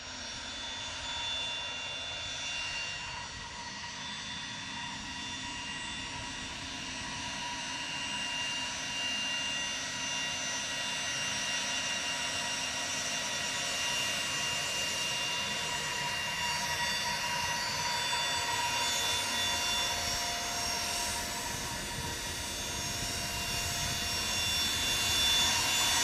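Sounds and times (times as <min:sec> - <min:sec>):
jet taxiing with whining engines: 0:00.0 - 0:26.0.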